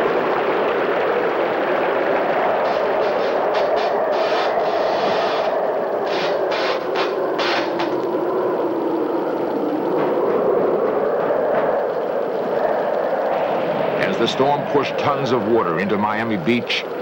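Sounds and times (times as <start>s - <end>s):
strong wind and rain: 0.0s - 17.0s.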